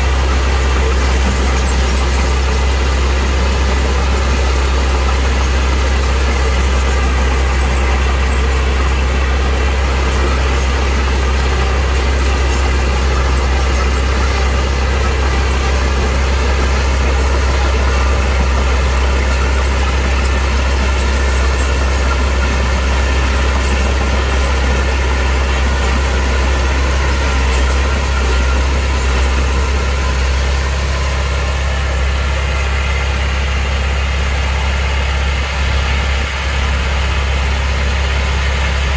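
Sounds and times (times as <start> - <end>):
heavy machine engine humming: 0.0 - 38.9.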